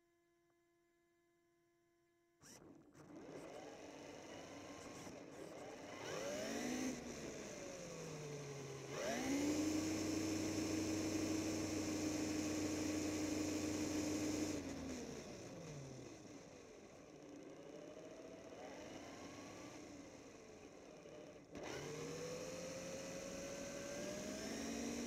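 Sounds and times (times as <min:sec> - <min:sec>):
toy truck electric motor whining: 0:02.4 - 0:25.0.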